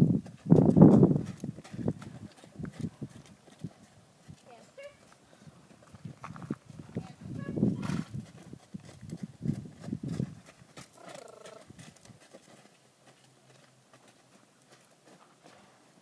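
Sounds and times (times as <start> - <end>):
hooves thudding on sand: 0.0 - 16.0.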